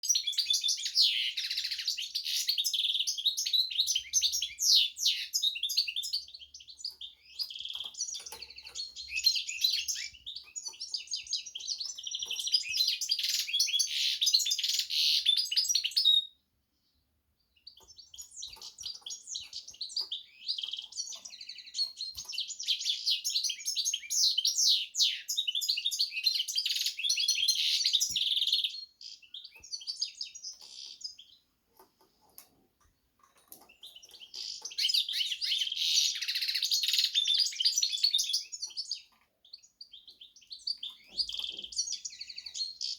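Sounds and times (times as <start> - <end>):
bird singing twittering song: 0.0 - 42.9.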